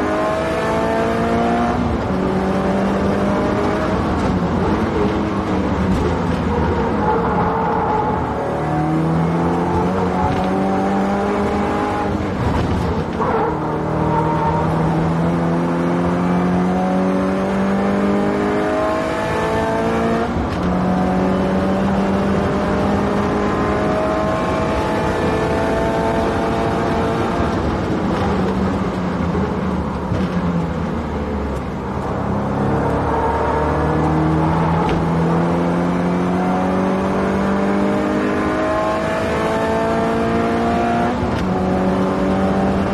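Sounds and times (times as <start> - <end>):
car engine revving through gears: 0.0 - 42.9.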